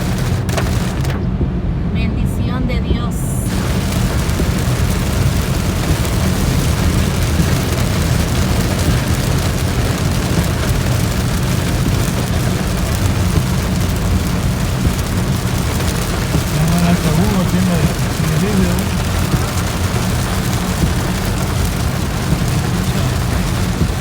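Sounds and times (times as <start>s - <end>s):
heavy rain hitting a car: 0.0s - 1.7s, 3.0s - 24.0s
road and engine rumble: 0.0s - 24.0s.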